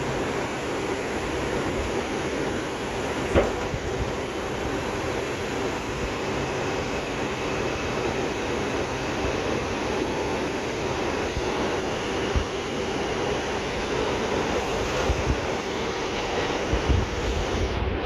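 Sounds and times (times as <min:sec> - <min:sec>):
subway wheels rumbling on rail: 0:00.0 - 0:18.0.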